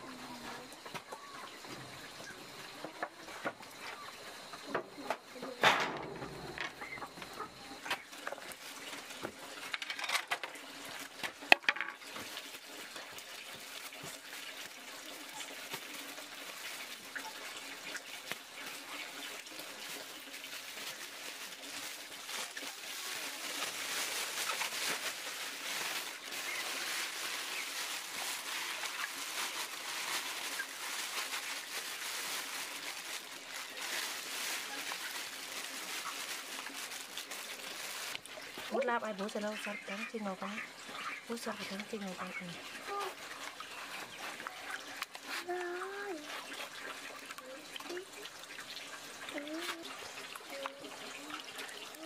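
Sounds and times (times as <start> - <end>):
water splashing and trickling: 5.4 - 52.0.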